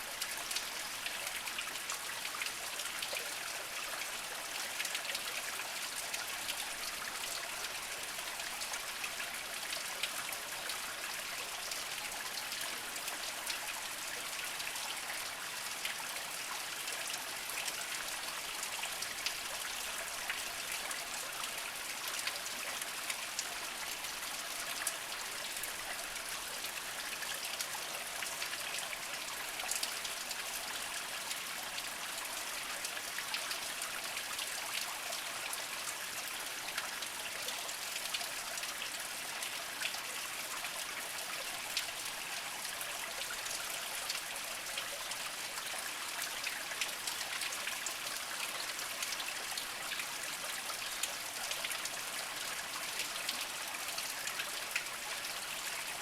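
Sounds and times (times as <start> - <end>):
spring water trickling over rocks: 0.0 - 56.0
water drips and splashes: 0.0 - 56.0.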